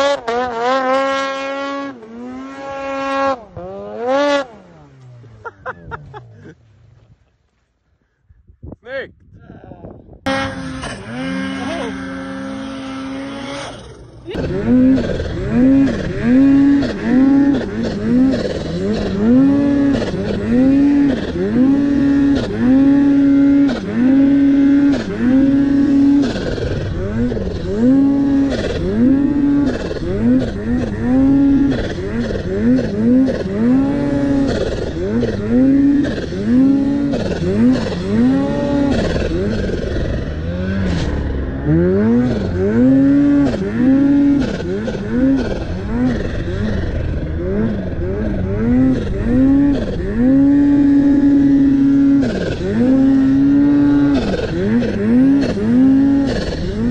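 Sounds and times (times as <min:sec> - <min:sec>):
snowmobile engine revving: 0:00.0 - 0:06.7, 0:10.2 - 0:56.9.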